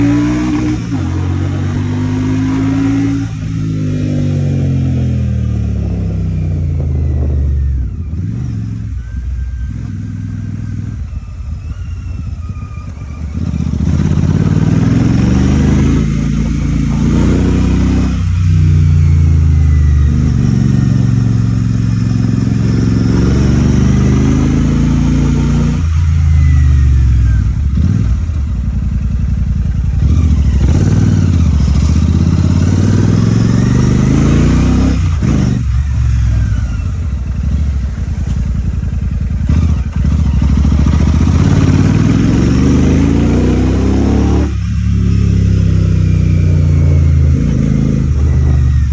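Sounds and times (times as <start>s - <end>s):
motorcycle engine shifting gears: 0.0s - 48.9s.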